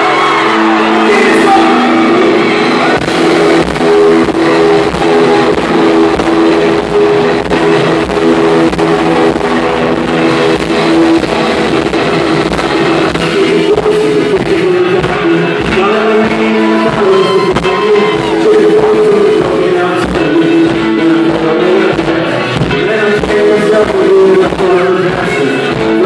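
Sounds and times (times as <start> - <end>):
electric guitar: 0.0 - 26.0
person singing: 0.0 - 26.0
steady drumbeat: 0.0 - 26.0.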